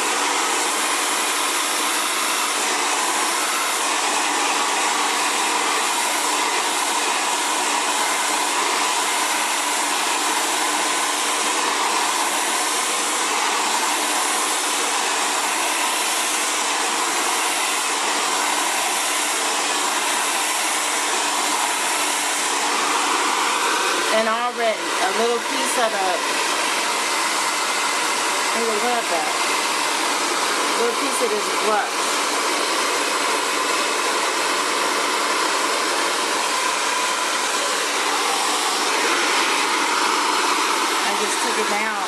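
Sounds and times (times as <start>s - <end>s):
hair dryer running: 0.0s - 42.0s.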